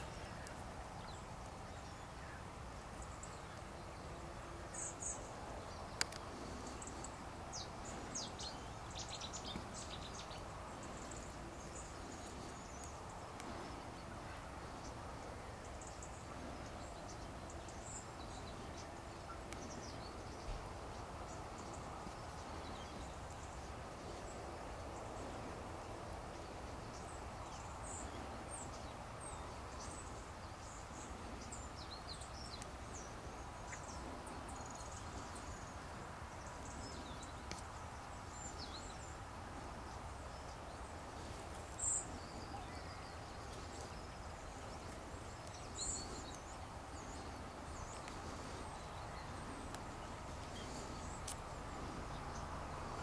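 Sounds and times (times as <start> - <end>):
low background hiss and hum: 0.0 - 53.0
small birds chirping: 0.0 - 53.0.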